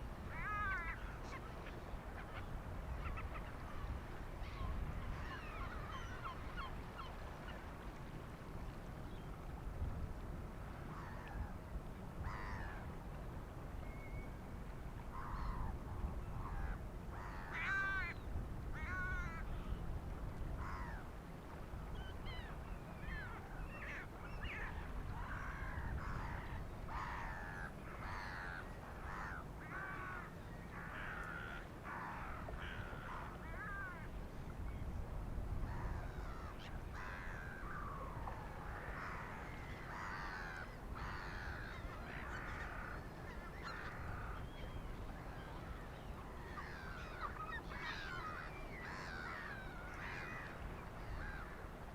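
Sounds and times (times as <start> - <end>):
gulls and crows calling: 0.2 - 7.7, 12.2 - 12.9, 15.1 - 19.8, 20.6 - 21.1, 22.0 - 34.2, 35.6 - 51.9.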